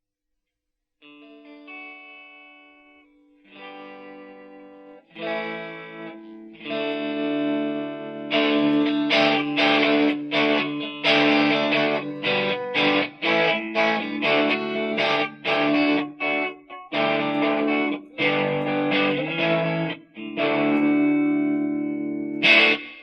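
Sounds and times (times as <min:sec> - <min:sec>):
distorted electric guitar chords: 0:01.0 - 0:23.0.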